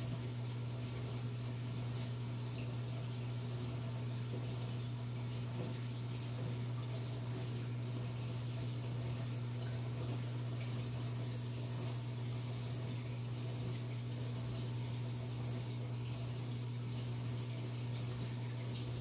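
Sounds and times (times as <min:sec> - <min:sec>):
aquarium pump hum: 0:00.0 - 0:19.0
water trickling: 0:00.0 - 0:19.0.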